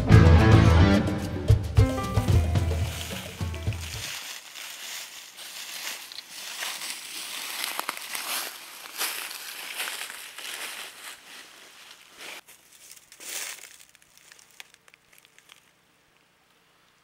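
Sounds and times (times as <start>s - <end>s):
footsteps crunching dry leaves: 2.2s - 15.8s.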